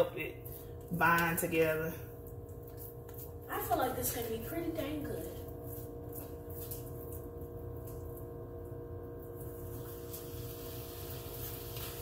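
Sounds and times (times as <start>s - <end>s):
kitchen appliance hum: 0.0s - 12.0s.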